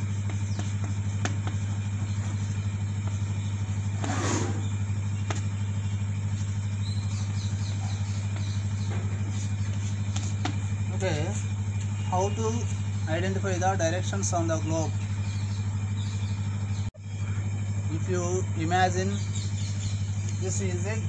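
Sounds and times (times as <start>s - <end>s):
loud steady low hum: 0.0s - 21.0s.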